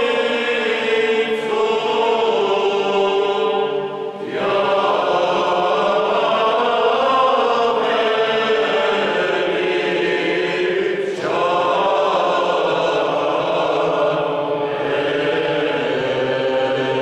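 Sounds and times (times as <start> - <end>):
men's choir chanting a cappella: 0.0 - 17.0.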